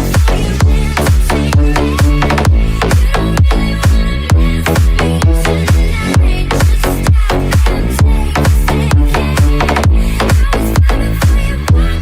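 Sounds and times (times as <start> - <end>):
electronic dance music: 0.0 - 12.0
kick drum: 0.0 - 12.0.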